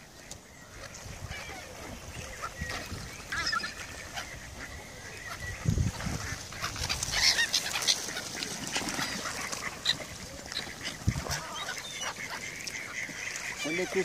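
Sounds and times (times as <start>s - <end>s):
gulls calling: 0.0s - 14.0s
mallard ducks calling: 0.2s - 14.0s.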